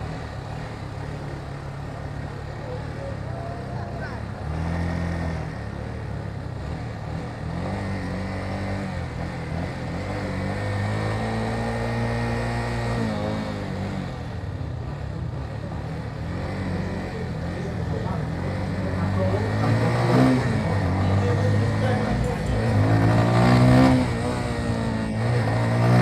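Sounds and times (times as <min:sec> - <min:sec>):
motorcycle engine running: 0:00.0 - 0:26.0
wind and road noise: 0:03.8 - 0:26.0.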